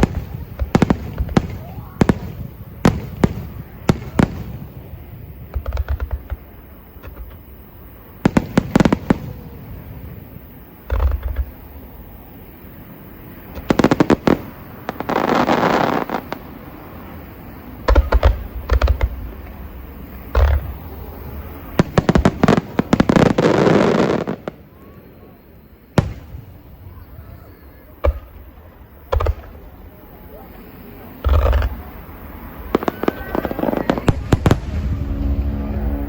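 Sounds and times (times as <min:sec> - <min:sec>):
fireworks bangs and booms: 0:00.0 - 0:36.0
fireworks crackling: 0:00.0 - 0:36.0.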